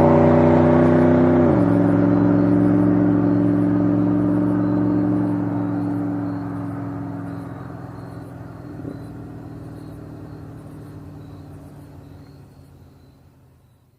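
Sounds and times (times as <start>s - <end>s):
car engine driving: 0.0s - 13.9s.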